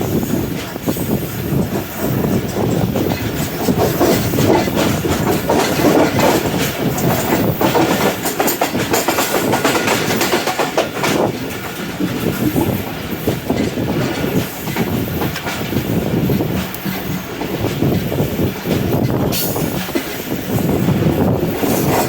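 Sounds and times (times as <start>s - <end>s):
train wheels clattering on rails: 0.0s - 22.0s.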